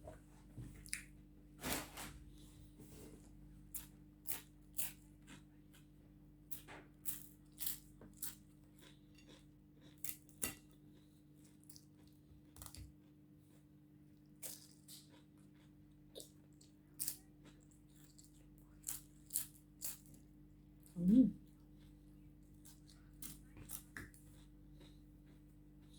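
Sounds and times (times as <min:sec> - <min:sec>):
faint electrical hum: 0:00.0 - 0:25.9
crunchy food chewing: 0:03.7 - 0:25.9.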